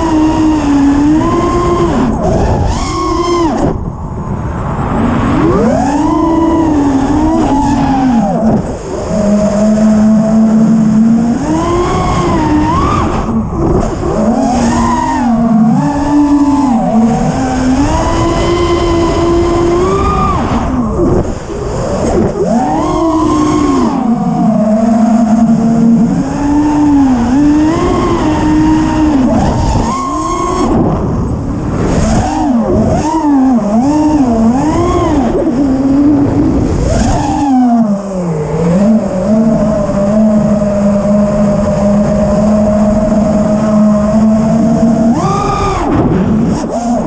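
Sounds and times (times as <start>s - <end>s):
quadcopter motors whining: 0.0s - 47.0s.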